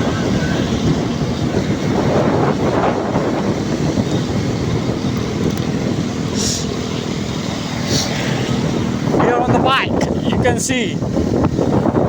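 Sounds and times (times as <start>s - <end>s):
motorcycle road rumble: 0.0s - 12.0s
wind buffeting microphone: 0.0s - 12.0s.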